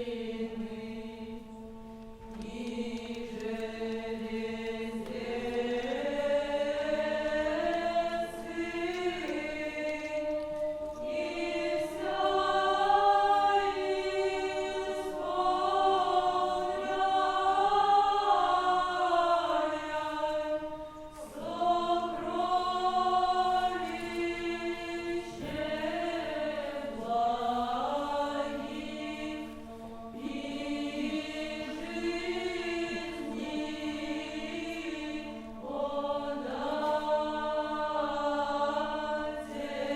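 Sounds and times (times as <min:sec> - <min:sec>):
choir chanting over low drone: 0:00.0 - 0:39.9.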